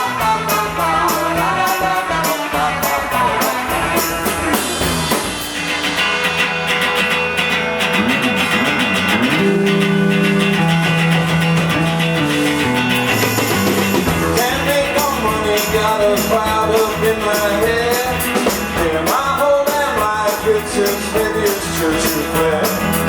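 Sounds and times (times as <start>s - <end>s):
drums: 0.0s - 23.0s
guitars: 0.0s - 23.0s.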